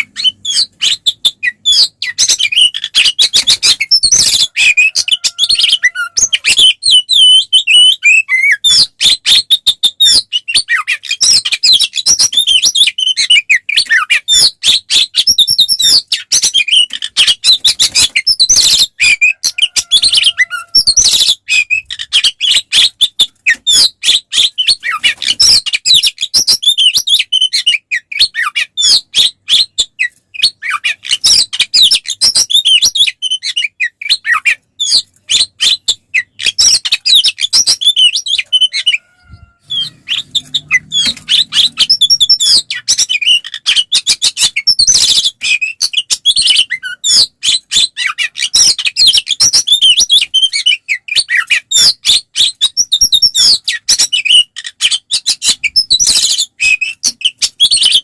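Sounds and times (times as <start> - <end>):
magpie-robin singing varied chirps: 0.0 - 58.0.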